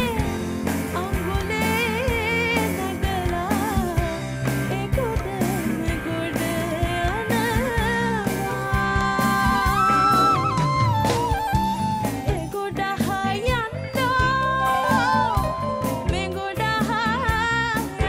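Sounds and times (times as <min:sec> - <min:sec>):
person singing: 0:00.0 - 0:11.3, 0:12.0 - 0:18.0
acoustic instrumental backing: 0:00.0 - 0:18.0.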